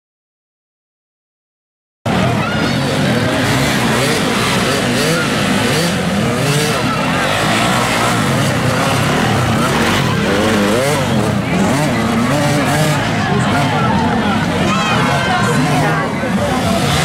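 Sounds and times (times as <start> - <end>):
dirt bike engines revving: 2.1 - 17.0.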